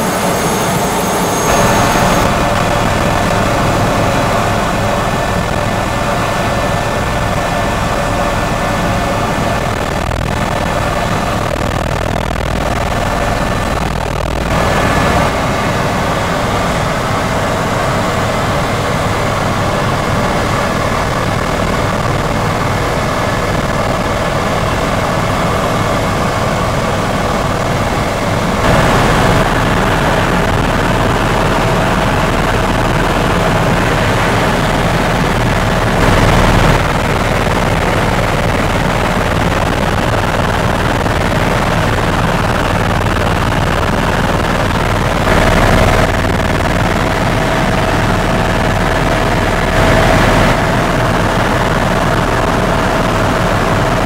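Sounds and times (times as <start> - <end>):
helicopter engine and rotors: 0.0 - 54.0.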